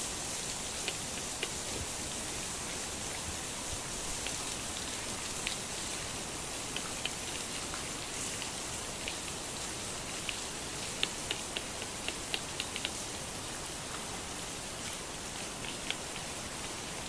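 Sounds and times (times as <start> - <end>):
rain falling on foliage: 0.0 - 17.0
sharp drip ticks: 0.2 - 14.1, 14.8 - 16.8.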